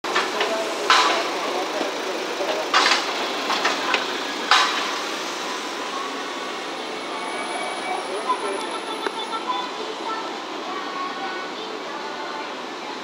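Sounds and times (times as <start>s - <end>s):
traffic tyres and engines: 0.0s - 13.0s.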